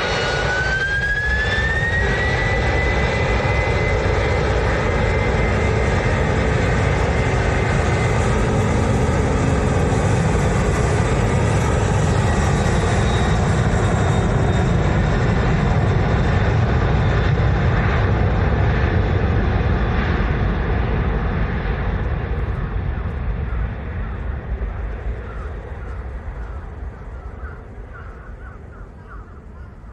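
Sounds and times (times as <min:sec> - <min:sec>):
jet engines passing low: 0:00.0 - 0:29.9.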